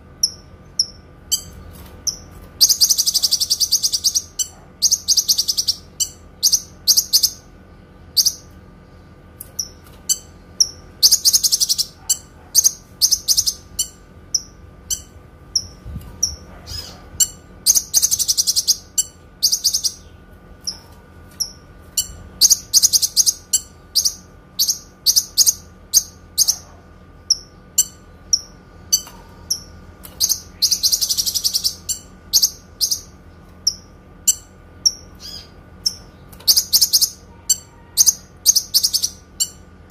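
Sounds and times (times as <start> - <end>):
bird rapid trills: 0.0 - 7.5, 9.6 - 26.7, 27.3 - 39.6
bird high-pitched chirps: 0.2 - 7.5, 8.1 - 8.6, 9.5 - 39.6.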